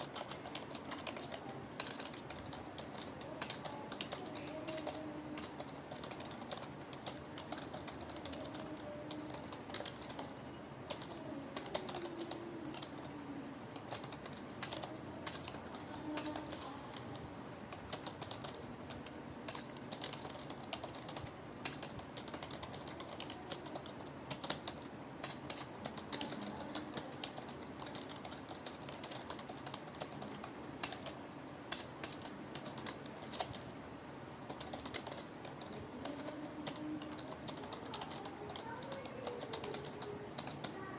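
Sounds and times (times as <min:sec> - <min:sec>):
computer keyboard typing: 0:00.0 - 0:33.7, 0:34.4 - 0:40.9.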